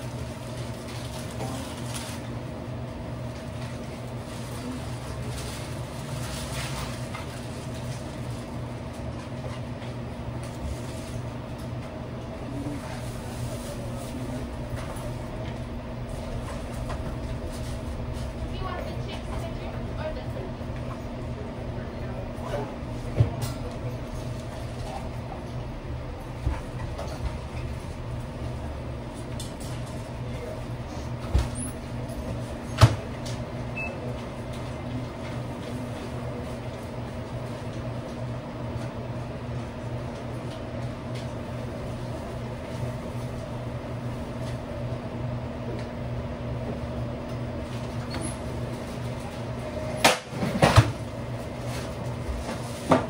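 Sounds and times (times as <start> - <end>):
kitchen equipment hum: 0.0 - 53.0.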